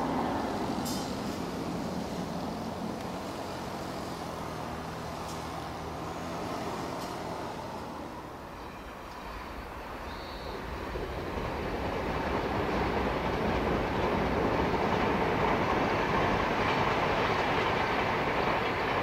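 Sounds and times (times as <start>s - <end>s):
electric train approaching: 0.0s - 19.0s.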